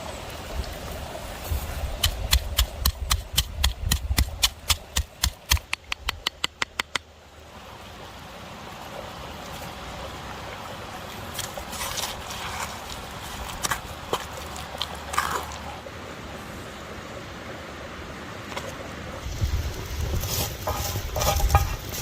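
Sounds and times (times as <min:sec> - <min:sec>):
flowing stream: 0:00.0 - 0:22.0.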